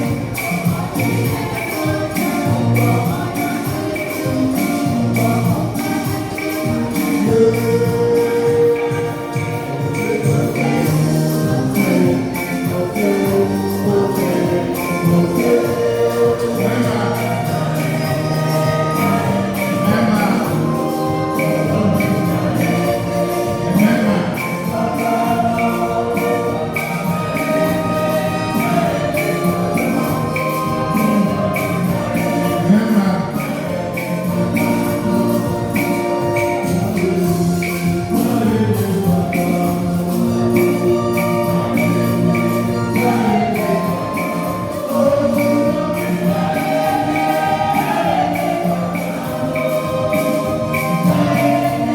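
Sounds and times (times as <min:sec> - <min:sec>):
choir and congregation singing: 0:00.0 - 0:51.9
jingling shaker: 0:00.0 - 0:51.9
rhythmic percussion: 0:00.0 - 0:51.9.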